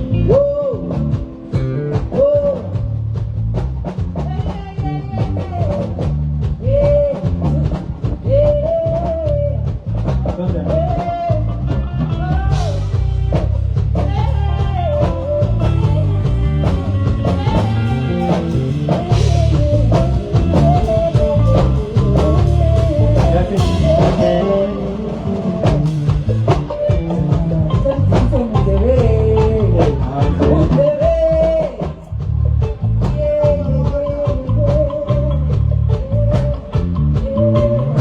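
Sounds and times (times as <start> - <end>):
person singing: 0.0 - 3.0, 4.2 - 38.0
drum kit: 0.0 - 38.0
guitar: 0.0 - 38.0
heavy bass: 0.0 - 38.0.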